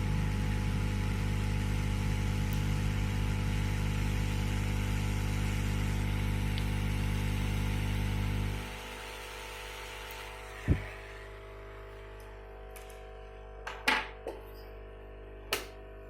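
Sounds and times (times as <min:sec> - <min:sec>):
electrical hum: 0:00.0 - 0:13.6.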